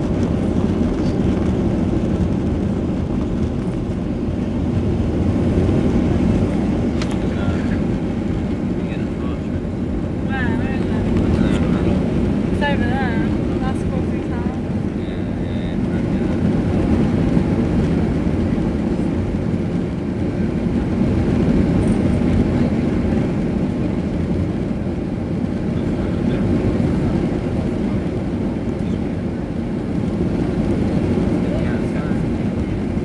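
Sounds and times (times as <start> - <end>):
jet engines and rushing air: 0.0 - 33.0.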